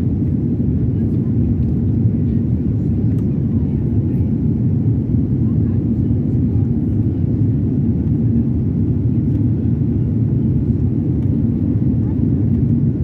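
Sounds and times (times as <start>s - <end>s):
jet engine roar in cabin: 0.0s - 13.0s.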